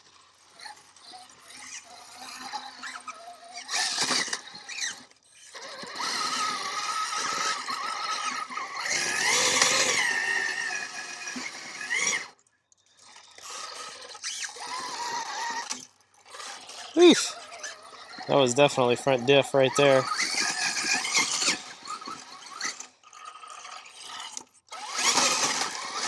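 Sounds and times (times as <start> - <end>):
rc car electric motor whining: 0.0 - 26.0.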